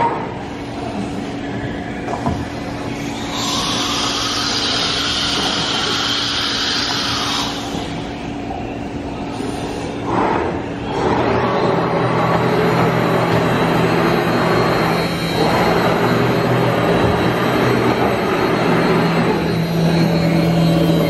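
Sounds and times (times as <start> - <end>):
industrial machinery humming: 0.0 - 21.0.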